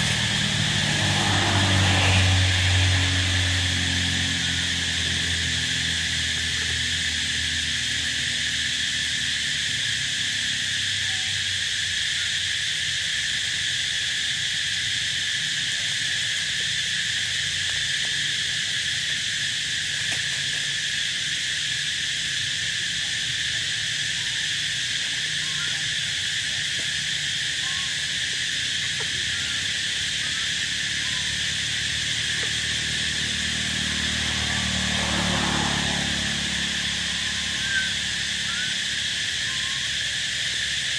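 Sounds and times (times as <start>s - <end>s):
insects droning in chorus: 0.0s - 40.9s.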